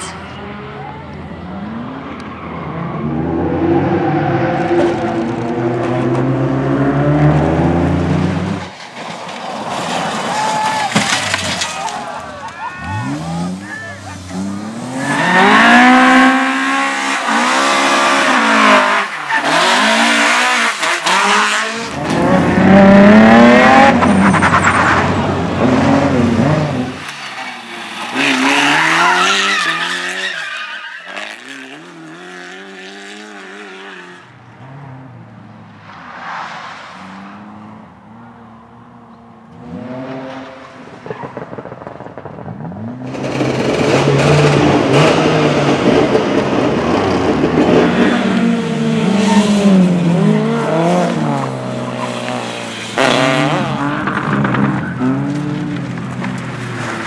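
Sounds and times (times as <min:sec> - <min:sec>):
racing car engines revving: 0:00.0 - 0:57.0.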